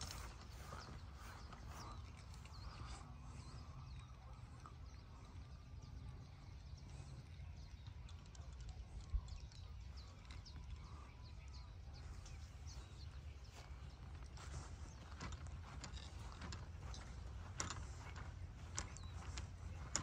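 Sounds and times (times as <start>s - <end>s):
birds chirping faintly: 0.0s - 20.0s
low steady rumble: 0.0s - 20.0s.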